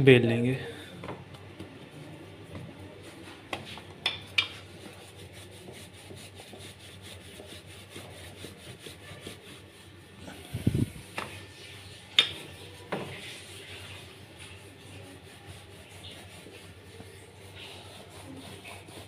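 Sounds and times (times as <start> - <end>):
rolling pin rubbing on dough: 0.7 - 19.0.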